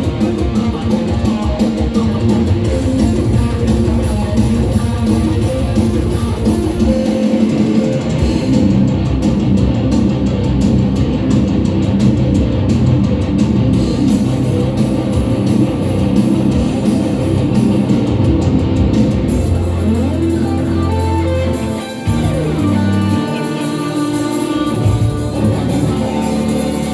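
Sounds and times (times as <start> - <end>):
distorted electric guitar: 0.0 - 26.9
live rock band playing: 0.0 - 26.9.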